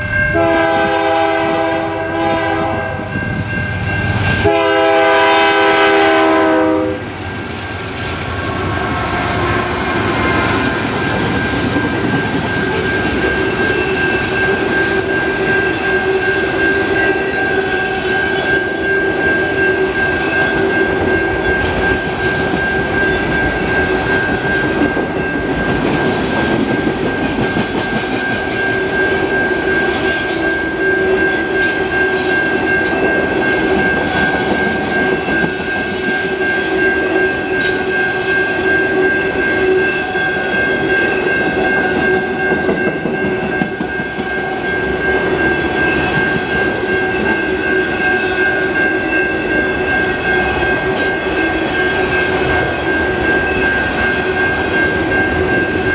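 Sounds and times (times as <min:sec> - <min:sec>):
high ringing tone: 0:00.0 - 0:55.9
train wheels rumbling on rail: 0:00.0 - 0:55.9.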